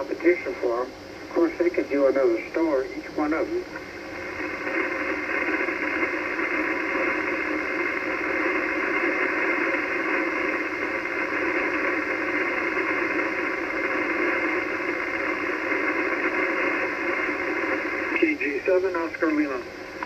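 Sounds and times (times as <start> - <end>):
radio receiver static hiss: 0.0 - 20.0.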